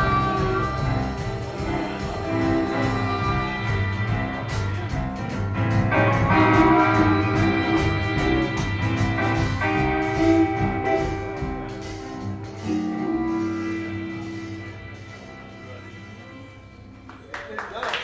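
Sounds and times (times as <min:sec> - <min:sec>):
steady drum beat: 0:00.0 - 0:15.4
harmonica: 0:00.0 - 0:17.0
bass guitar: 0:00.0 - 0:17.2
electric guitars: 0:00.0 - 0:17.2.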